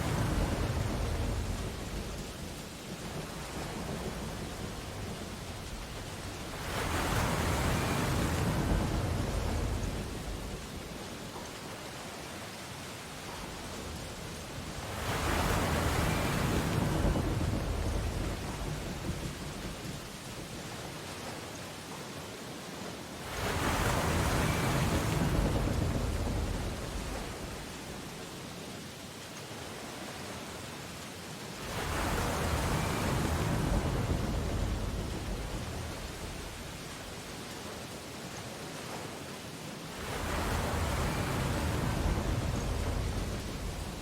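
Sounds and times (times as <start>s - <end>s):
wave breaking on beach: 0.0s - 20.5s, 23.2s - 28.1s, 31.5s - 44.0s
distant surf hiss: 0.0s - 20.8s, 23.2s - 28.6s, 31.2s - 38.0s, 39.0s - 44.0s.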